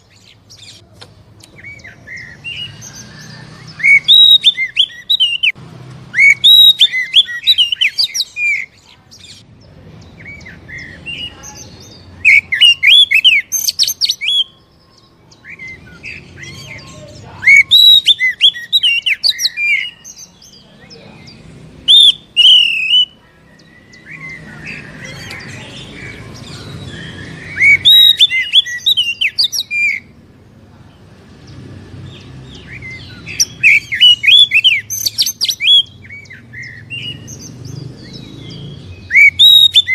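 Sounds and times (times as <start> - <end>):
bird singing whistles and trills: 1.4 - 9.4, 10.0 - 20.7, 21.8 - 30.1, 32.1 - 39.9.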